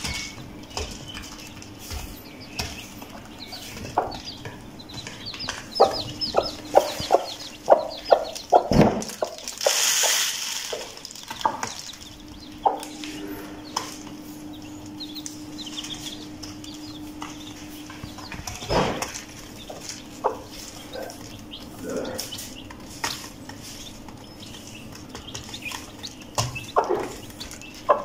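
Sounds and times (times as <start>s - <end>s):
chicks peeping: 0.0s - 28.0s
hen clucking: 1.4s - 28.0s.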